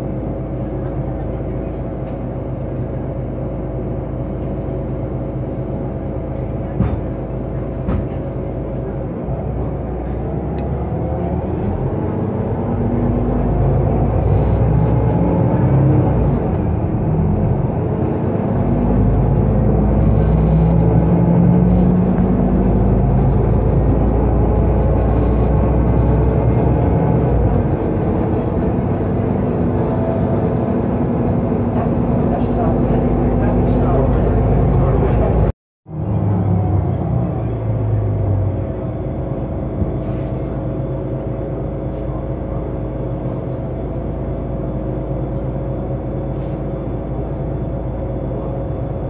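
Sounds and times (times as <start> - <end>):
bus engine rumbling: 0.0 - 49.0.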